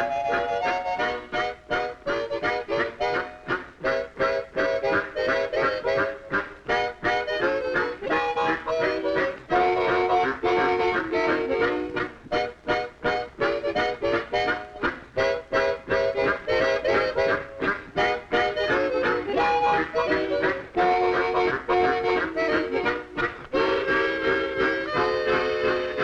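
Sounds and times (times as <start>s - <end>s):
harmonica ensemble playing chords: 0.0s - 26.0s.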